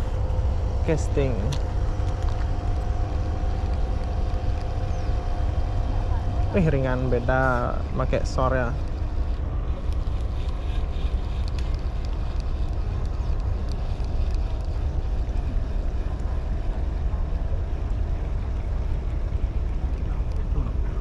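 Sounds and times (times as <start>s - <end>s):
faint ferry engine drone: 0.0s - 21.0s
wind buffeting microphone: 0.0s - 21.0s.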